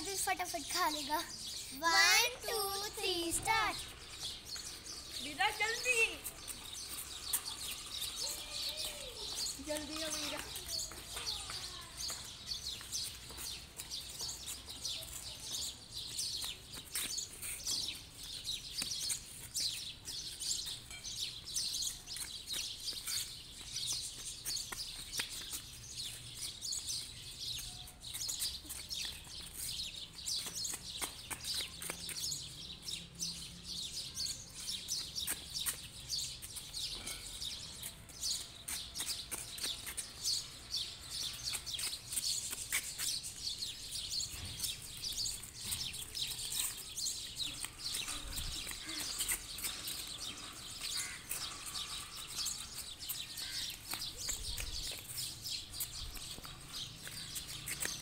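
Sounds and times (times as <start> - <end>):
birds chirping chorus: 0.0 - 58.0.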